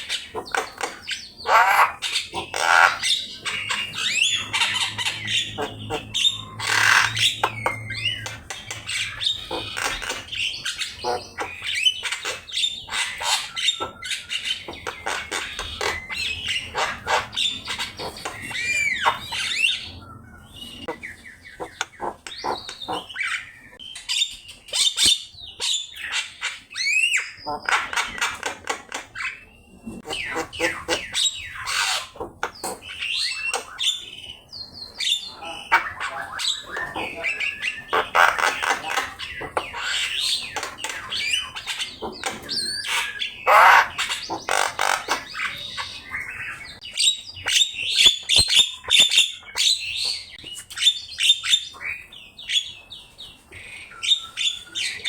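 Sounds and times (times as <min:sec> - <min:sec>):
myna bird chattering: 0:00.0 - 0:55.0.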